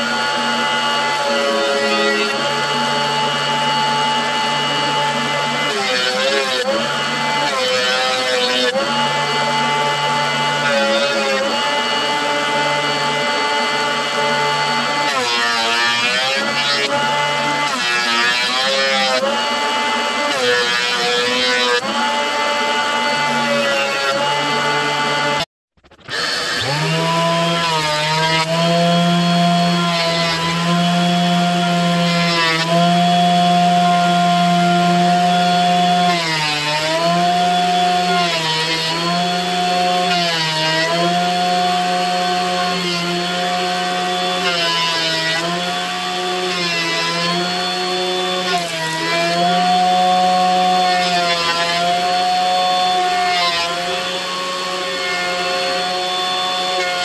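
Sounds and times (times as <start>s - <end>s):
thickness planer running: 0.0s - 57.0s.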